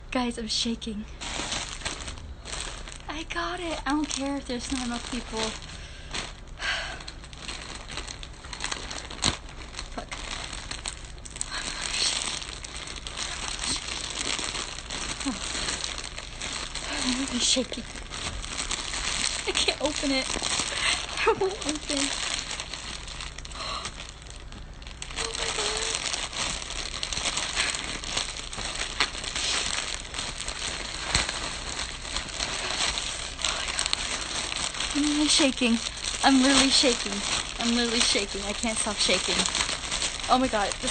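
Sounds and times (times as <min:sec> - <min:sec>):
crinkly packaging rustling: 0:00.2 - 0:40.9.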